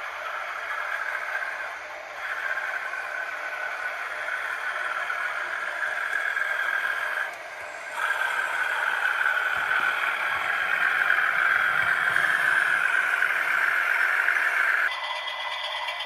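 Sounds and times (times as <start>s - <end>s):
model locomotive engine sound: 0.0s - 16.0s.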